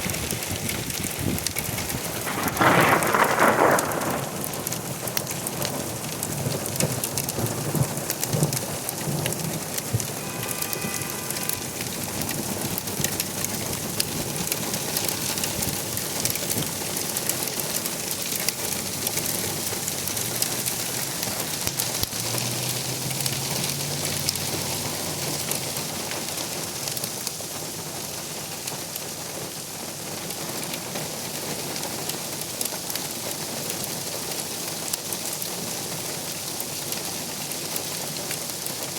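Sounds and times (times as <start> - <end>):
hail and rain pelting: 0.0 - 38.9.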